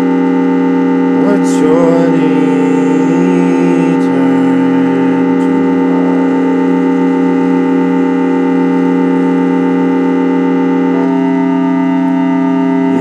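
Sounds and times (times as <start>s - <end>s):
keyboard organ sustained chord: 0.0s - 13.0s.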